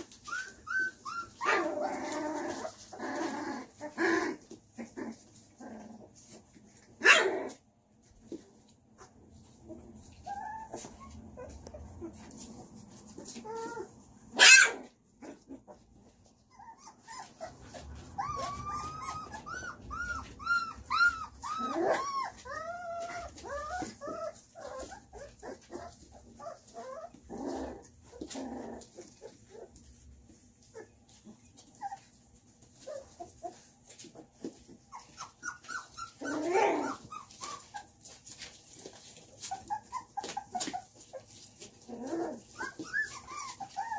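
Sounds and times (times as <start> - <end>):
puppies whimpering and squeaking: 0.0 - 43.9.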